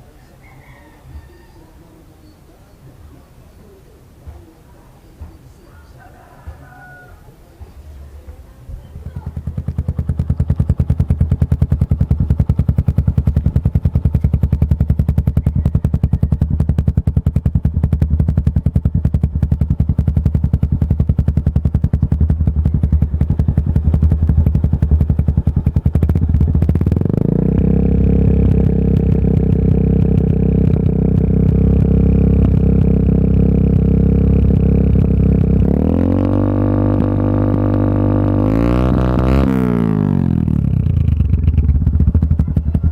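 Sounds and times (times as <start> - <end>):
motorcycle engine idling and revving: 4.2 - 42.9.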